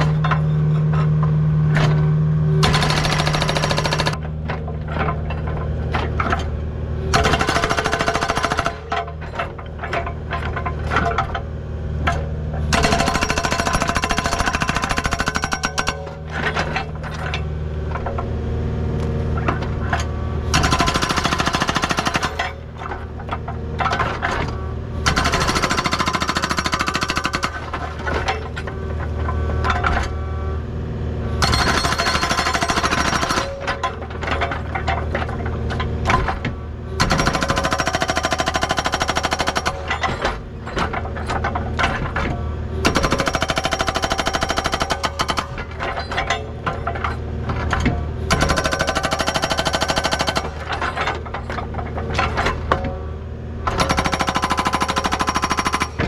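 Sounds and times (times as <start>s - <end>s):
hydraulic breaker hammer pounding rock: 0.0s - 18.3s, 19.3s - 30.2s, 31.4s - 56.0s
excavator engine running: 0.0s - 56.0s.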